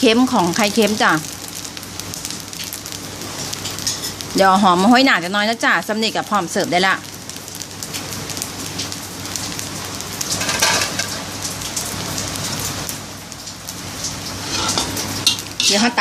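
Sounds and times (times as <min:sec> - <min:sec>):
fried rice sizzling in a wok: 0:00.0 - 0:16.0.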